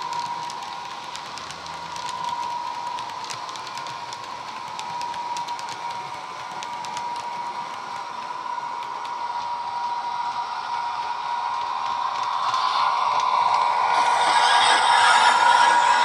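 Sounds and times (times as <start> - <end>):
blower fans rushing: 0.0 - 16.0
steady whine: 1.9 - 16.0.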